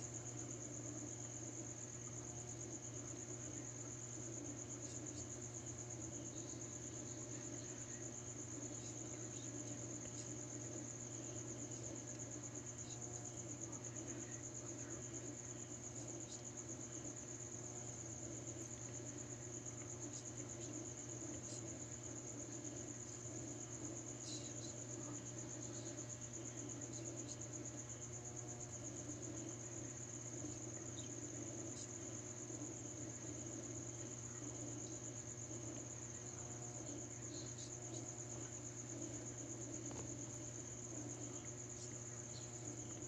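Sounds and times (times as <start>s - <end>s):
crickets trilling: 0.0s - 43.0s
steady low hum: 0.0s - 43.0s.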